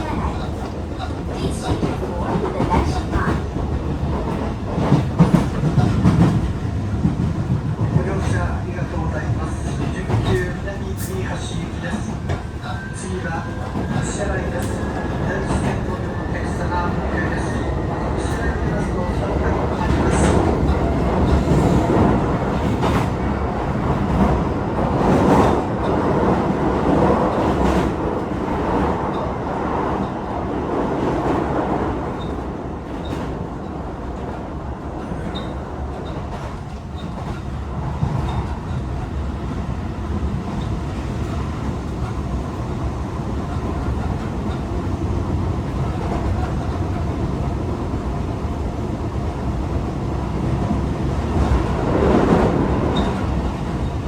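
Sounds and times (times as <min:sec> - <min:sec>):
train wheel and rail noise: 0:00.0 - 0:54.0.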